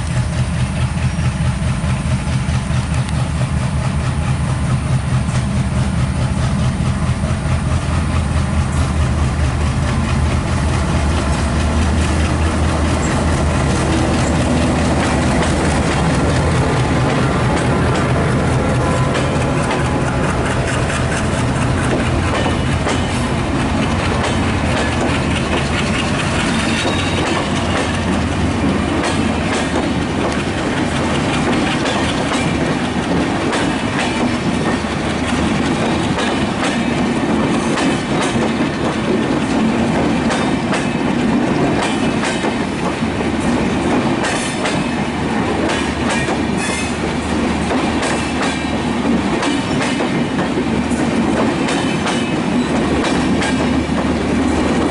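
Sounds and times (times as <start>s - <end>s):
train wheels clicking over rail joints: 0.0s - 54.9s.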